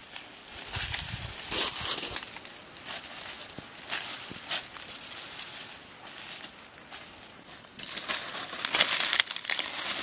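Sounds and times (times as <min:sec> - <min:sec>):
footsteps in dry leaves: 0:00.0 - 0:10.0.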